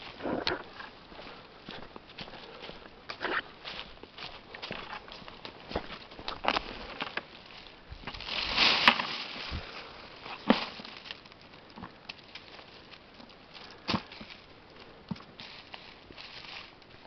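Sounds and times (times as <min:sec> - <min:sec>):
footsteps in dry leaves: 0:00.0 - 0:11.5, 0:12.2 - 0:14.6, 0:15.2 - 0:17.0
twigs cracking: 0:00.0 - 0:17.0.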